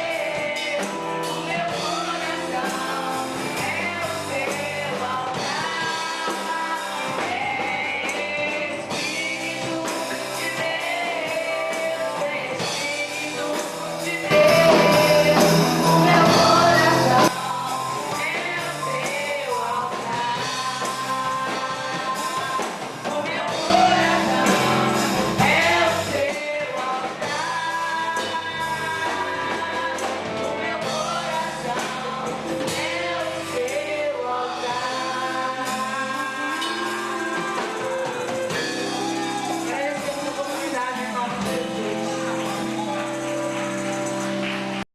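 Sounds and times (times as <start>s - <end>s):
band accompaniment: 0.0s - 44.9s
gospel singing: 0.0s - 44.9s.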